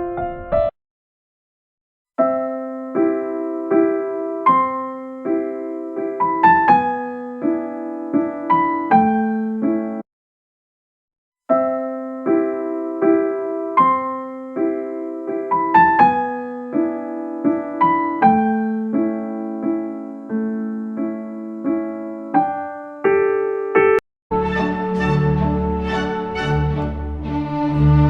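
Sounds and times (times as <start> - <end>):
gentle piano melody: 0.0 - 0.8, 2.2 - 10.0, 11.5 - 28.0.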